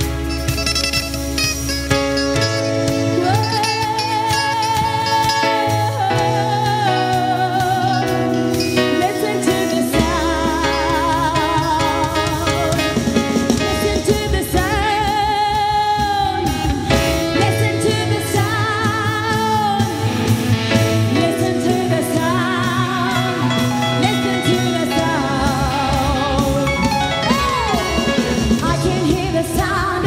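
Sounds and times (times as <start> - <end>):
drum kit: 0.0 - 30.0
guitar: 0.0 - 30.0.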